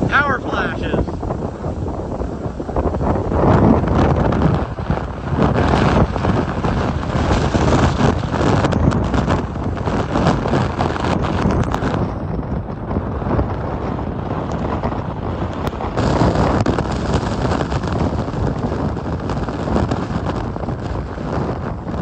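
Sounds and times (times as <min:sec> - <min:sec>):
wind blasting across microphone: 0:00.0 - 0:22.0.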